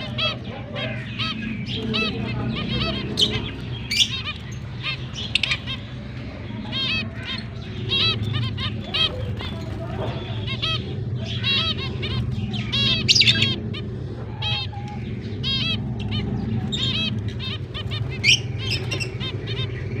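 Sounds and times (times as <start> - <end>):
finches chirping: 0.0 - 20.0
steady low hum: 0.0 - 20.0.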